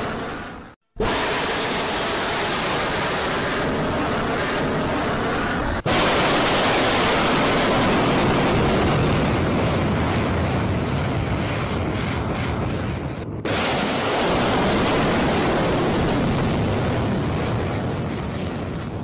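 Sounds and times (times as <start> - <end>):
rocket motor roaring: 0.0 - 18.9.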